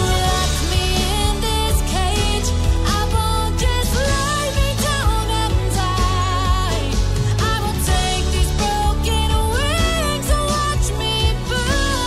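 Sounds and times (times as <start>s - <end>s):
pop song with sung melody: 0.0s - 12.0s.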